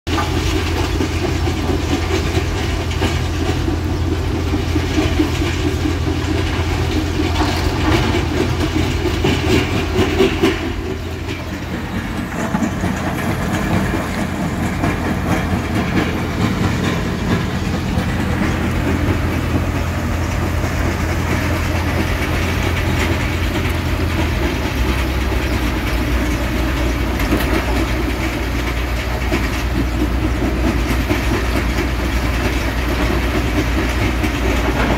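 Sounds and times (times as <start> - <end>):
excavator diesel engine drone: 0.1 - 34.9
rock crusher rattling and crunching: 0.1 - 34.9.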